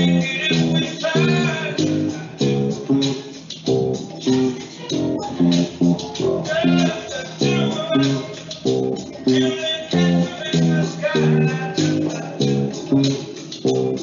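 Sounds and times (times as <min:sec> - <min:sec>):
electric bass guitar plucked notes: 0:00.0 - 0:14.0.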